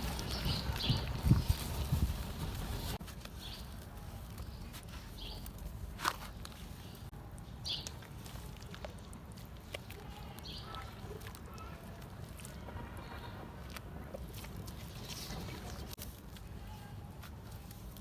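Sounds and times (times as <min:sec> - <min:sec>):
soil crumbling with small crackles: 0:00.0 - 0:18.0.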